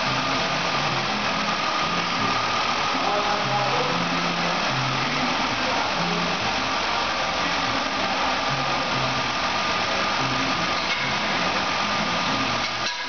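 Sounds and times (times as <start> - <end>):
thin steady whine: 0.0 - 13.0.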